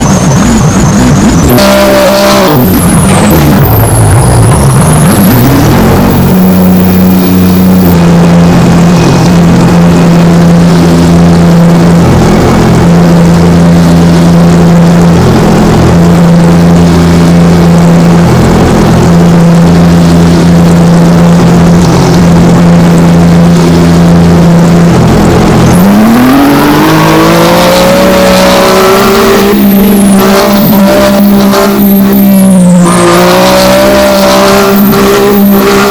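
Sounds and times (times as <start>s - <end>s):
loud motor running: 0.0s - 35.9s.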